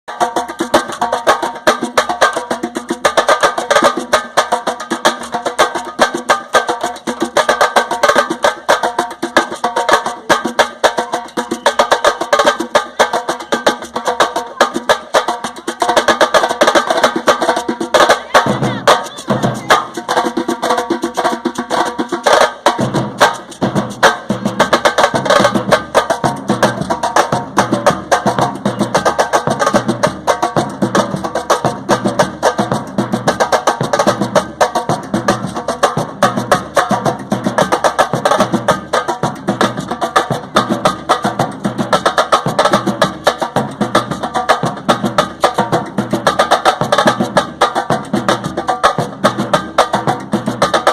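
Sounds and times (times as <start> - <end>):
street percussion drums: 0.0 - 50.9.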